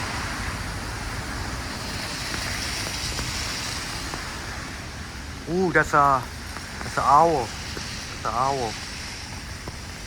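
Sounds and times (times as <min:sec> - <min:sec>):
pouring rain hiss: 0:00.0 - 0:10.0.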